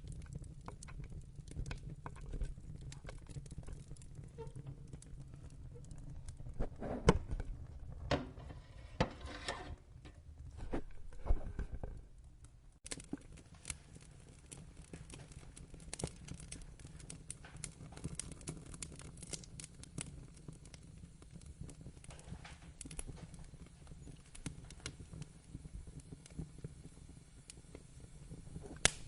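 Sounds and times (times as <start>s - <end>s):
loud pops from fire: 0.0s - 9.4s, 12.8s - 29.0s
low rumble of flames: 0.0s - 29.0s
wood fire crackling: 0.0s - 29.0s.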